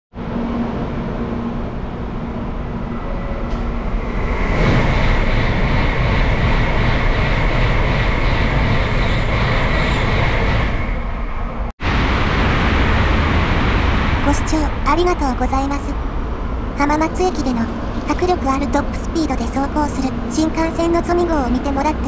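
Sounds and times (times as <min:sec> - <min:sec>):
bullet train passing: 0:00.2 - 0:22.0
high whine: 0:00.2 - 0:22.0.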